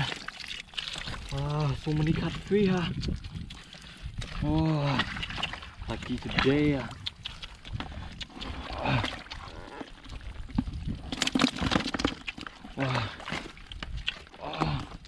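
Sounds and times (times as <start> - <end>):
fish slapping and splashing: 0.0 - 15.0
wet knocks and clicks: 0.0 - 15.0.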